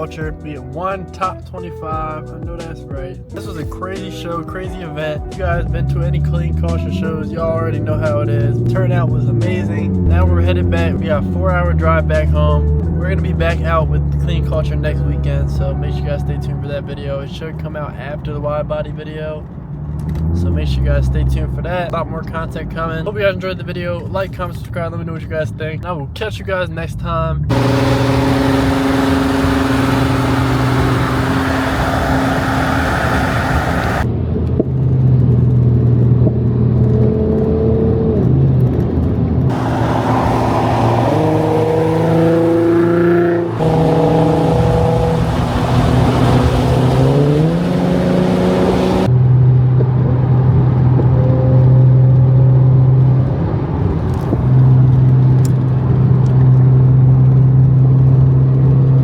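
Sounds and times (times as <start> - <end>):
car engines revving: 3.3 - 23.0, 27.3 - 34.1, 34.8 - 59.0.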